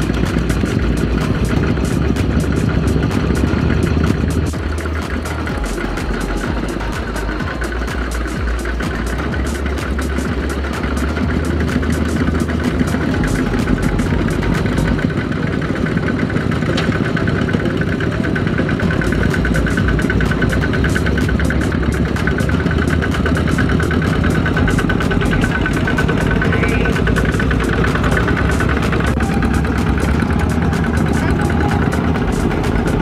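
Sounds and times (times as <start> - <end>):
diesel engine chugging: 0.0 - 33.0.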